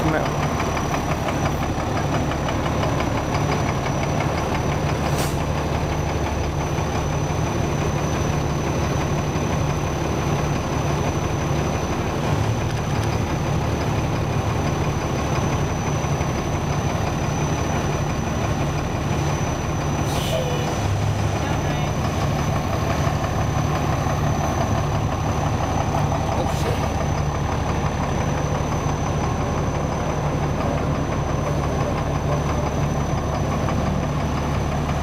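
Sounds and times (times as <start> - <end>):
diesel engine idling: 0.0 - 35.0.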